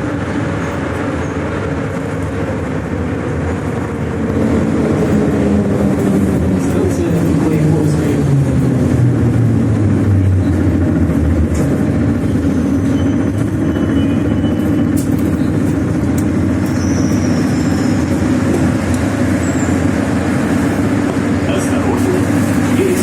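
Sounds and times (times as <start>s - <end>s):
metro train wheels rumbling: 0.0s - 23.0s.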